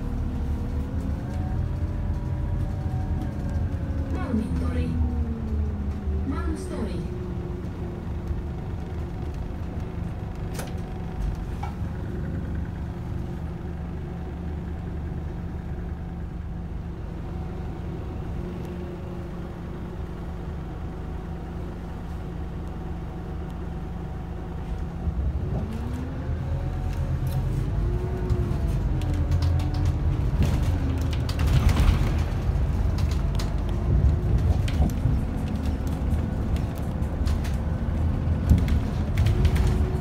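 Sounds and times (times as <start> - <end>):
bus diesel engine humming: 0.0 - 40.0.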